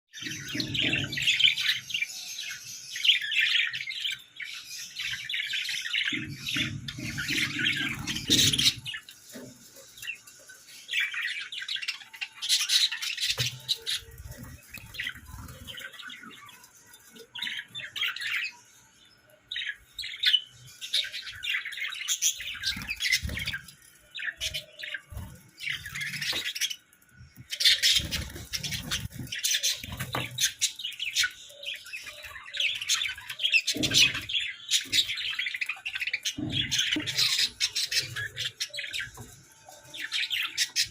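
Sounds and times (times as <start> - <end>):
budgerigars chirping and warbling: 0.1 - 40.9.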